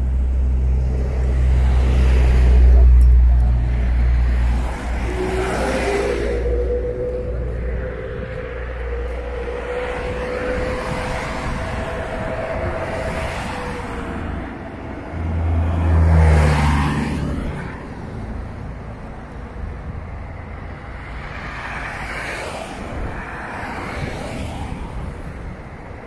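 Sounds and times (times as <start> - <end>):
vehicle passing: 0.0 - 25.6.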